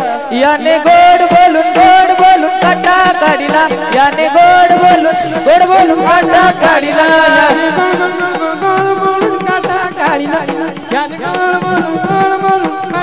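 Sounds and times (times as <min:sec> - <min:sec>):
devotional melody: 0:00.0 - 0:13.0
hand-drum beats: 0:00.0 - 0:13.0.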